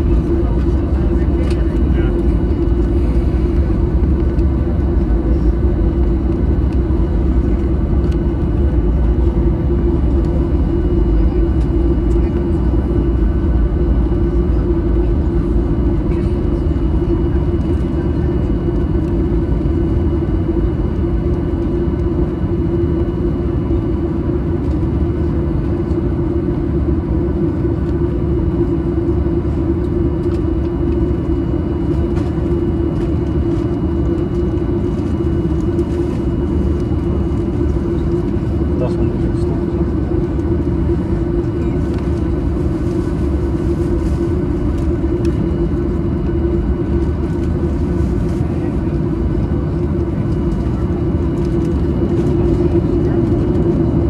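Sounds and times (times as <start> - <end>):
jet engine cabin rumble: 0.0 - 54.0.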